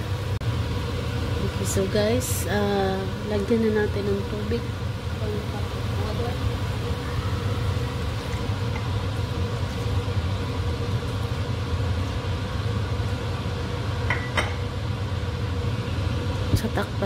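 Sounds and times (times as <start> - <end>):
kitchen appliance humming: 0.0 - 17.0.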